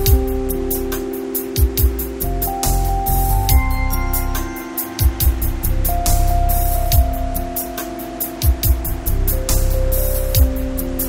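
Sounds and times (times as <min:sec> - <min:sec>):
music with held notes: 0:00.0 - 0:11.0
steady drum beat: 0:00.0 - 0:11.0.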